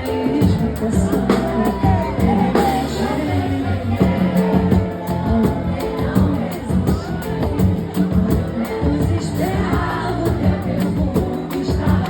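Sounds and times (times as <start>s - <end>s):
drum beat: 0.0s - 12.0s
live band music: 0.0s - 12.0s
person singing: 0.0s - 12.0s.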